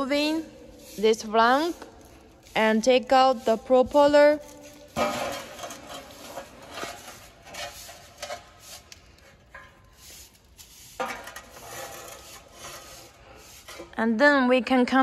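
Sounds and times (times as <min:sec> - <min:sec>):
hard objects clinking and scraping: 0:00.3 - 0:14.0.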